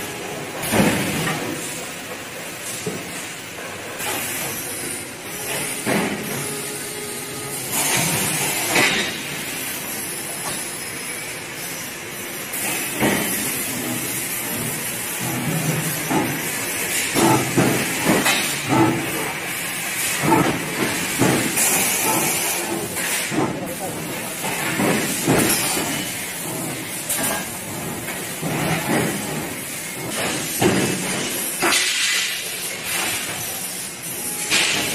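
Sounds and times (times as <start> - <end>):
laser cutting machine hissing: 0.0 - 34.9.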